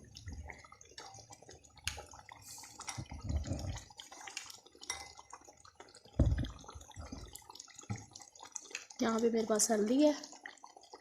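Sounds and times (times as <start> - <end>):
pot simmering and bubbling: 0.0 - 11.0.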